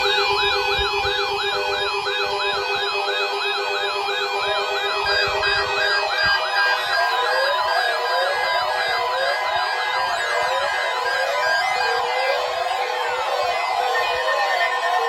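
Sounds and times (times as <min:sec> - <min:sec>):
electronic warble alarm: 0:00.0 - 0:15.0.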